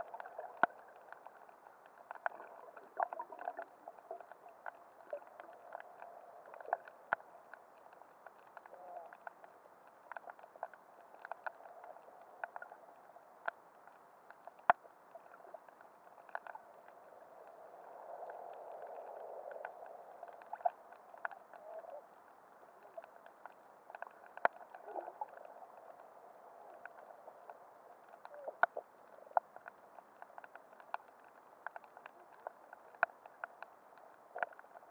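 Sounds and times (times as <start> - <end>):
muffled underwater water wash: 0.0 - 34.9
sharp underwater clicks and crackles: 0.0 - 34.9.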